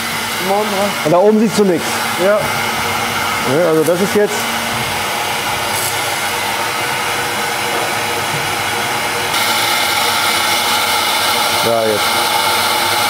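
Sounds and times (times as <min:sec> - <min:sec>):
suction blower rushing: 0:00.0 - 0:13.0.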